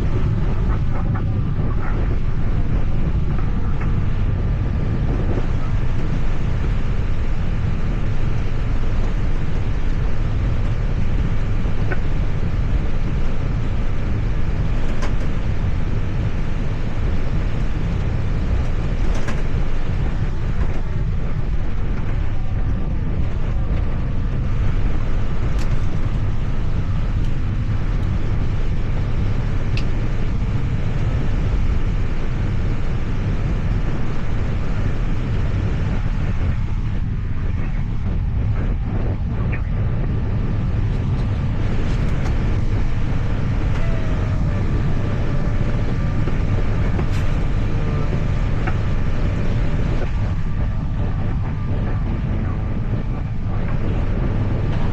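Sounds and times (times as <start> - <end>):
airliner flight deck rumble: 0.0 - 54.9.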